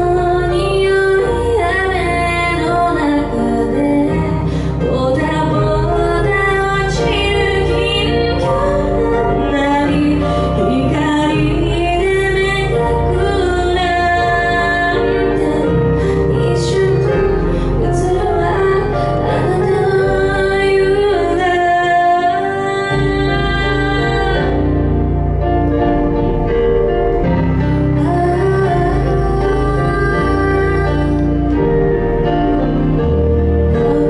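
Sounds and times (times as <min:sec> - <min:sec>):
woman singing pop ballad: 0:00.0 - 0:25.4, 0:27.7 - 0:32.2, 0:33.7 - 0:34.0
instrumental accompaniment: 0:00.0 - 0:34.0.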